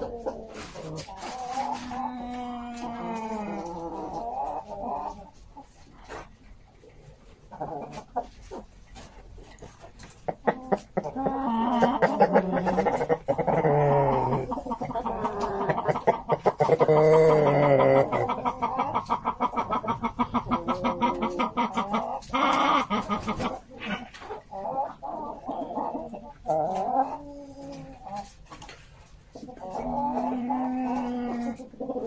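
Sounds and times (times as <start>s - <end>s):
chickens clucking and calling: 0.0s - 32.0s.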